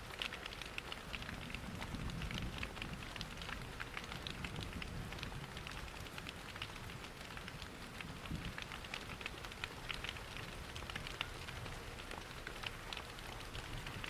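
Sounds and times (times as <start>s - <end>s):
rain pattering against windows: 0.0s - 14.0s
small sharp ticks: 0.0s - 14.0s
wood fire crackling: 0.0s - 14.0s.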